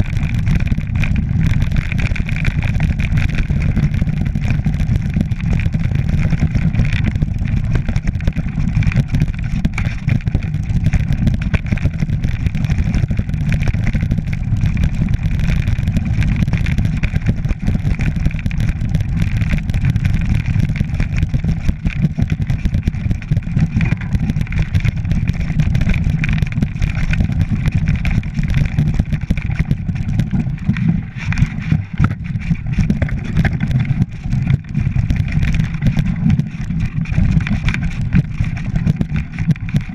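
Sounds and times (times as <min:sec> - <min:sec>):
bike rattling over rocks: 0:00.0 - 0:39.9
wind rumble on microphone: 0:00.0 - 0:39.9.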